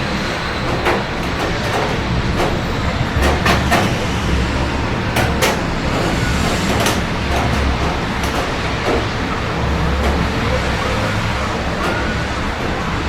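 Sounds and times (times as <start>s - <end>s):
low rumble of city traffic: 0.0s - 13.0s
steady rain: 0.0s - 13.0s.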